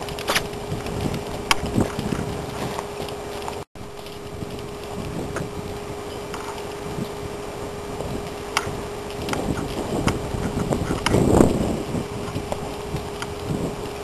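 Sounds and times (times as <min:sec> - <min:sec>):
faint constant hum: 0:00.0 - 0:14.0
wind on microphone: 0:00.0 - 0:14.0.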